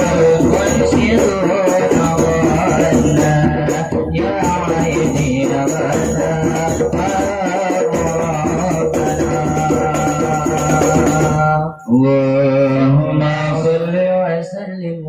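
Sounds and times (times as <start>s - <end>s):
jingling percussion: 0.0s - 12.9s.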